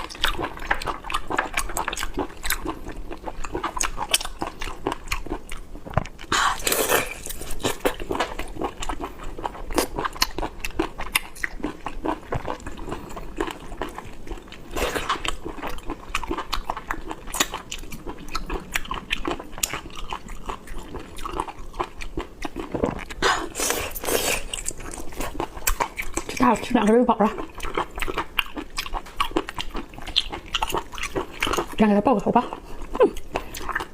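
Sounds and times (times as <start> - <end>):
mouth chewing squid: 0.0 - 33.9.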